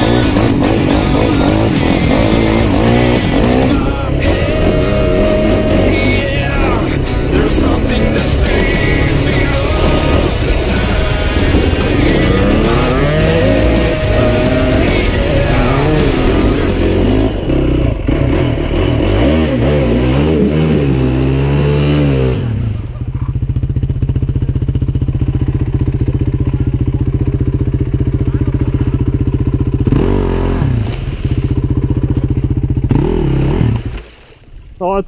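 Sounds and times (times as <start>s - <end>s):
quad engine revving and idling: 0.0s - 34.0s.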